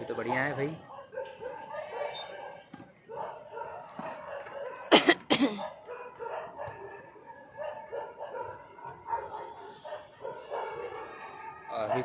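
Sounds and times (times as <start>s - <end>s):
dogs barking: 0.3s - 12.0s.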